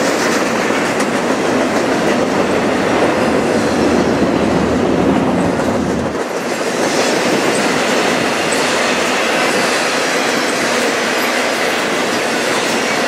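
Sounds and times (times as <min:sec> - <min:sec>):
train wheels on rail: 0:00.0 - 0:13.0.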